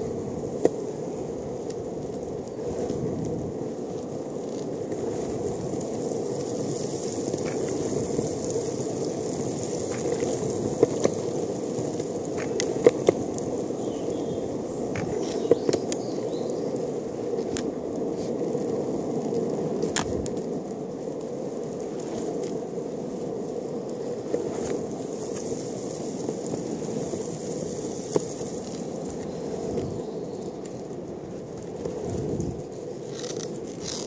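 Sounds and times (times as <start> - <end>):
longboard wheels rolling on asphalt: 0.0 - 34.0.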